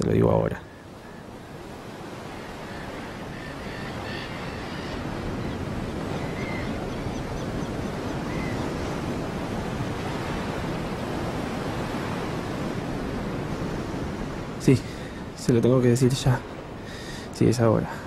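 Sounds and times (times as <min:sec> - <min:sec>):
surf washing on rocky shore: 0:00.0 - 0:18.0
wind: 0:00.0 - 0:18.0.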